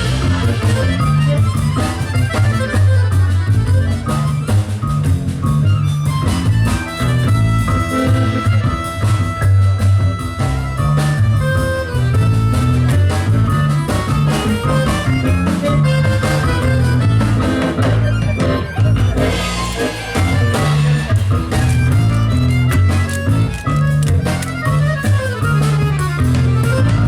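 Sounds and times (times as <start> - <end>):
bass line: 0.0 - 27.0
live band playing: 0.0 - 27.0.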